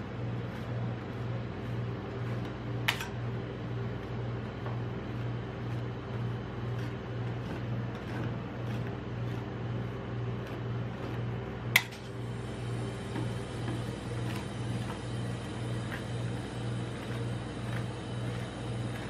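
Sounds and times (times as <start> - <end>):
refrigeration unit humming: 0.0 - 19.0.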